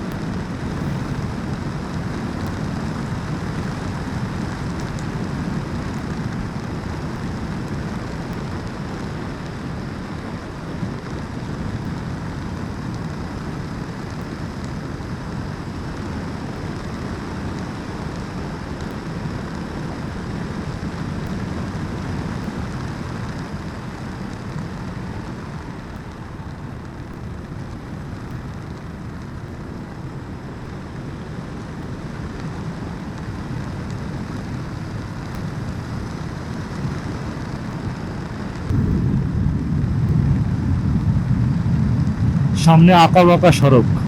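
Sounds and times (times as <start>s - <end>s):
motorcycle wind and road noise: 0.0s - 44.0s.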